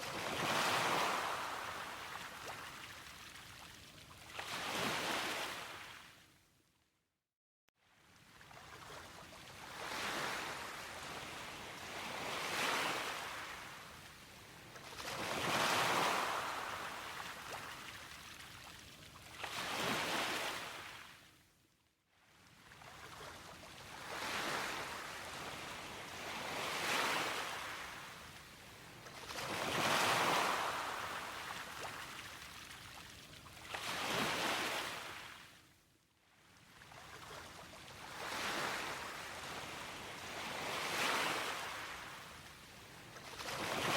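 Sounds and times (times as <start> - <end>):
gentle waves washing ashore: 0.0 - 6.3, 7.8 - 21.4, 22.2 - 35.7, 36.3 - 43.9.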